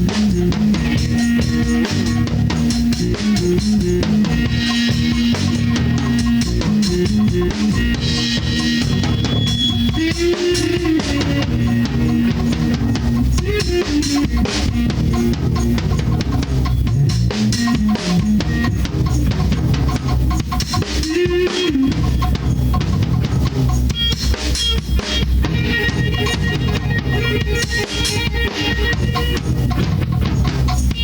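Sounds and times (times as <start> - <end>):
bass line: 0.0 - 31.0
drum kit: 0.0 - 31.0
electric guitars: 0.0 - 31.0.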